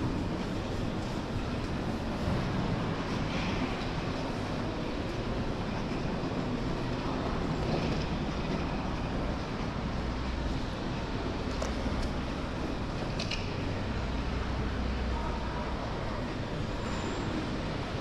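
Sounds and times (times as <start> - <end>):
rail vehicle rumbling: 0.0 - 18.0.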